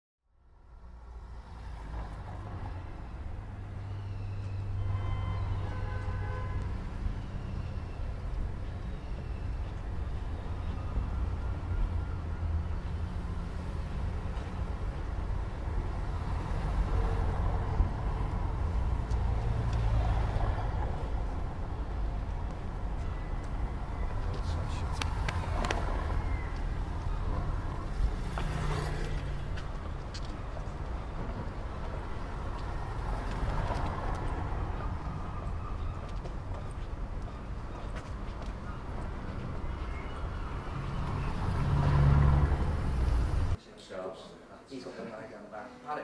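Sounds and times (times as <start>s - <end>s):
city traffic rumble: 0.3s - 46.0s.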